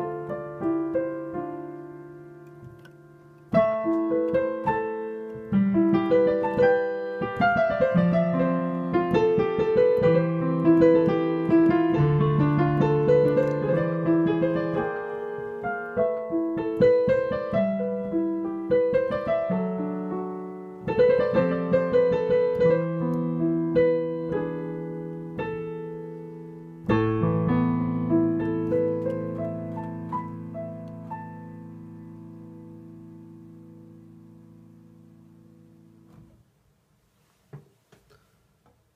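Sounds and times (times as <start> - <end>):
piano improvisation: 0.0 - 36.5.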